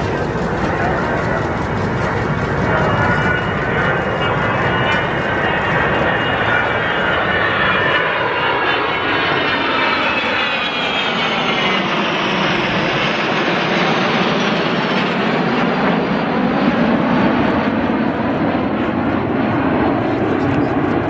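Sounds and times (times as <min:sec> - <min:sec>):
jet planes flying past: 0:00.0 - 0:21.0.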